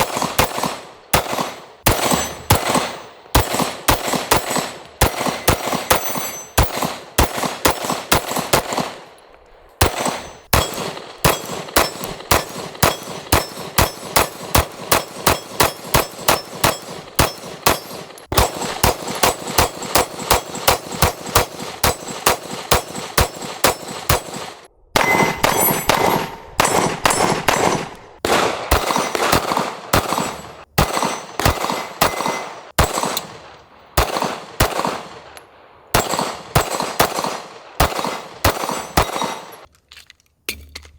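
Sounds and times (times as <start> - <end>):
pistol shots: 0.0 - 39.7.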